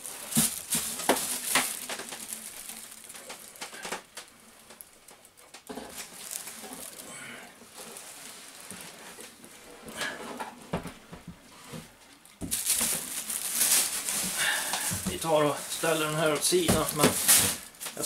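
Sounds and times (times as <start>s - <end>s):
plastic bag rustling and crinkling: 0.0s - 18.0s.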